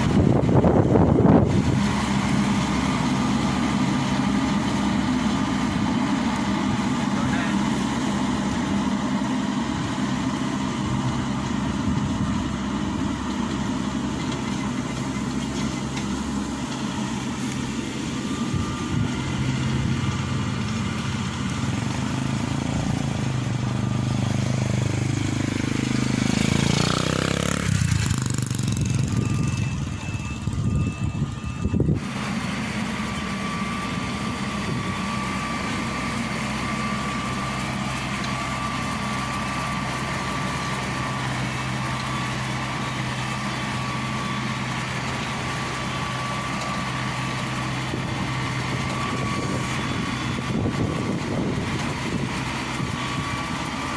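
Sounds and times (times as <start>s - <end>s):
diesel engine running: 0.0s - 53.9s
engine drone: 0.0s - 53.9s.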